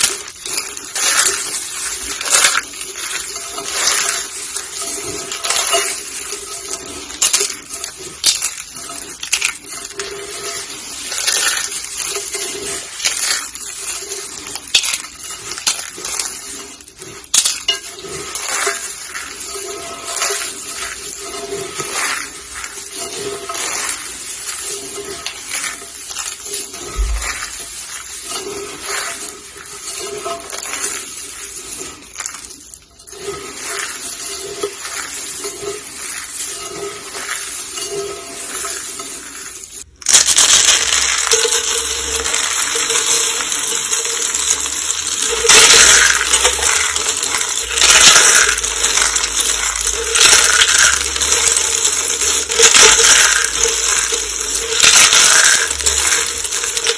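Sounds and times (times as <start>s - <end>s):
dry soap crunching: 0.0s - 56.9s.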